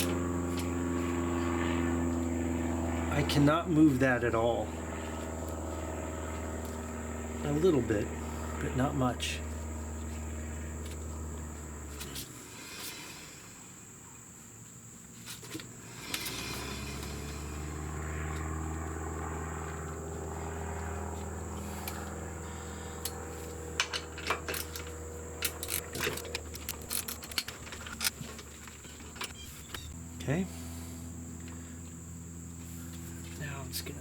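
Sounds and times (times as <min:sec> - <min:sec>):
low hum: 0:00.0 - 0:34.0
high insect-like chirr: 0:04.6 - 0:34.0.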